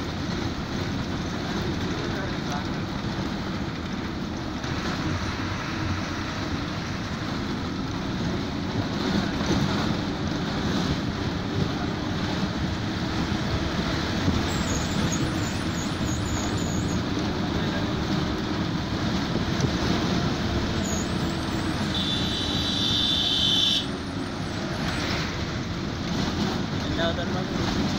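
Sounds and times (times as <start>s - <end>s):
bus engine running: 0.0s - 27.9s
road and wind noise: 0.0s - 27.9s.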